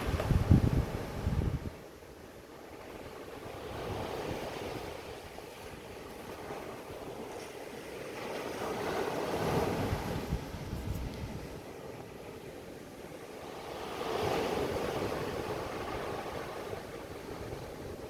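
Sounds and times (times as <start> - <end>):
ocean waves washing in: 0.0 - 18.0.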